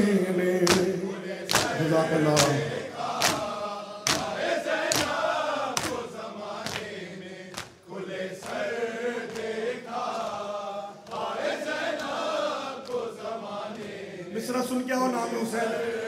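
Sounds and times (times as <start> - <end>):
men chanting a lament: 0.0 - 16.0
men slapping their chests: 0.6 - 14.0.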